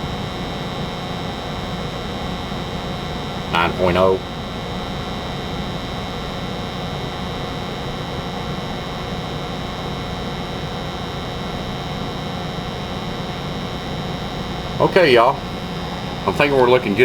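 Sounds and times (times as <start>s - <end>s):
furnace hum and air rush: 0.0s - 17.0s.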